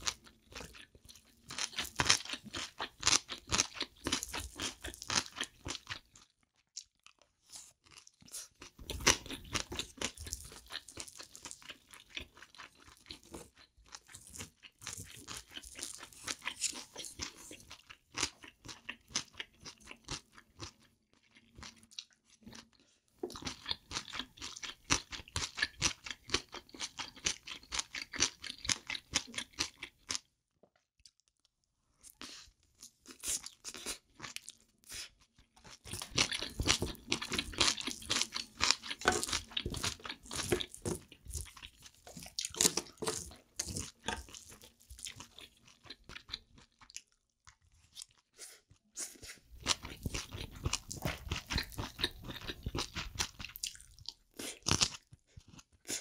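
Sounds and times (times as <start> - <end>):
close chewing mouth sounds: 0.0 - 30.3, 32.0 - 56.0.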